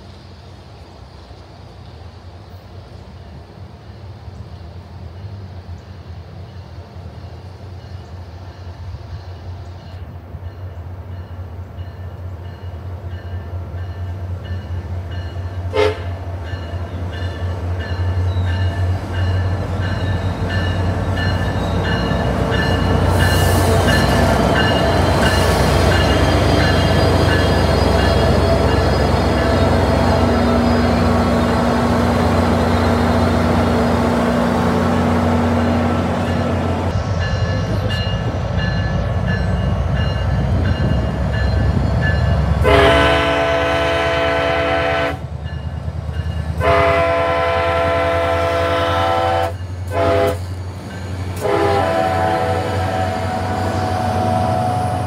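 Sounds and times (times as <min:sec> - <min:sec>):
diesel locomotive engine drone: 0:00.0 - 0:55.0
rail noise: 0:00.0 - 0:55.0.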